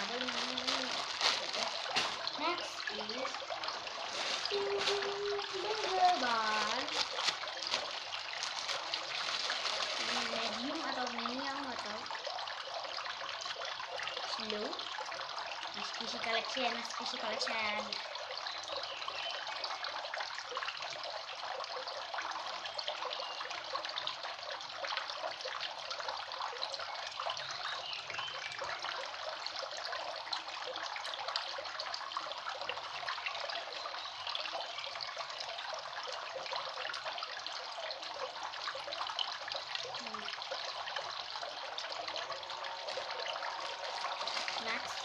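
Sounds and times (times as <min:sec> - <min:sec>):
trickling crackling hiss: 0:00.0 - 0:45.0.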